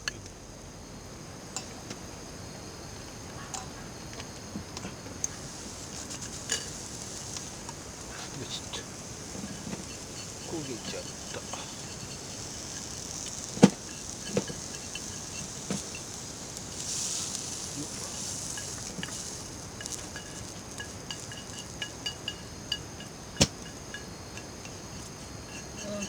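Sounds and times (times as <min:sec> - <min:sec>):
insects trilling and chirping: 0:00.0 - 0:26.0.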